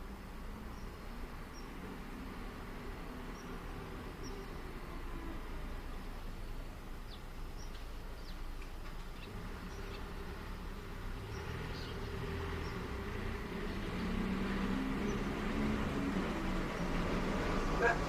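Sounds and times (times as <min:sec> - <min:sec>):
vehicle engine approaching: 0:00.0 - 0:18.0.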